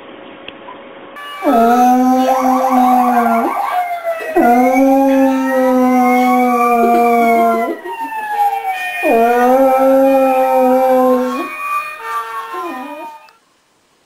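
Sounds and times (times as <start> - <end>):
faint wail rising and falling: 1.2 - 13.3
dog howling: 1.4 - 13.3.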